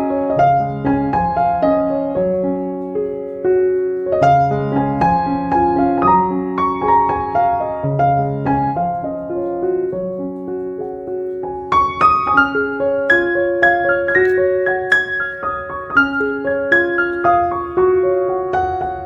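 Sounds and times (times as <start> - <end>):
slow gentle piano melody: 0.0 - 19.0.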